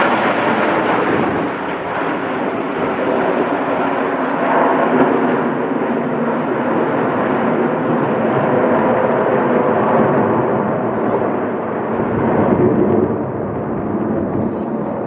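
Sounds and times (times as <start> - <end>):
jets passing overhead: 0.0 - 15.0.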